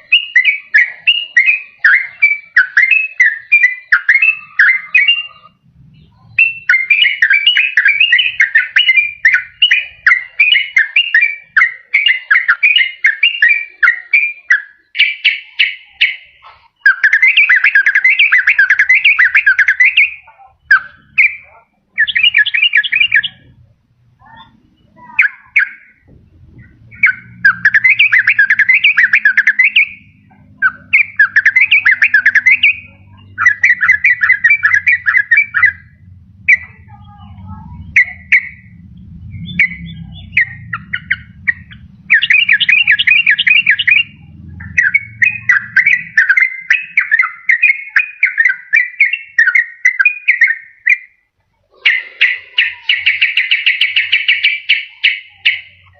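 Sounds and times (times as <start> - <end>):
faint low hum: 0.0 - 13.9, 15.9 - 49.6
bird singing bubbling notes: 0.0 - 55.9.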